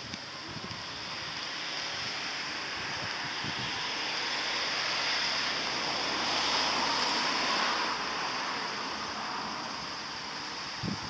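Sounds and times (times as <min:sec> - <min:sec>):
rain on wet ground and foliage: 0:00.0 - 0:10.8.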